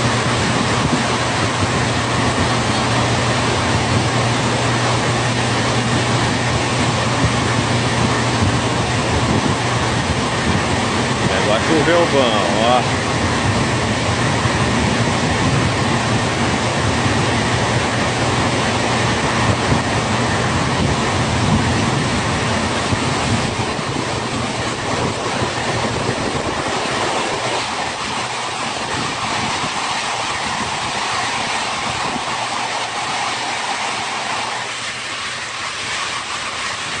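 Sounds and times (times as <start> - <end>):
steady rushing noise: 0.0 - 37.0.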